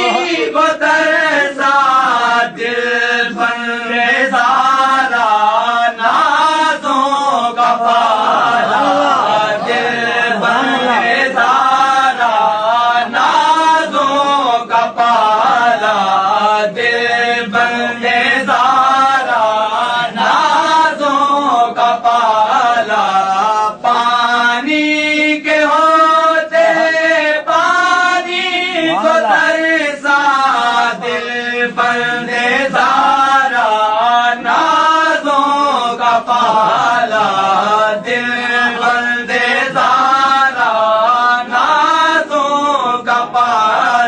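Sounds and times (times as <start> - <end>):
man chanting: 0.0 - 44.0.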